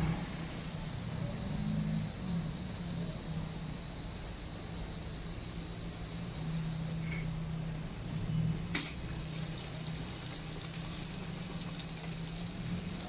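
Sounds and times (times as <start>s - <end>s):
filling machine humming and hissing: 0.0s - 13.0s.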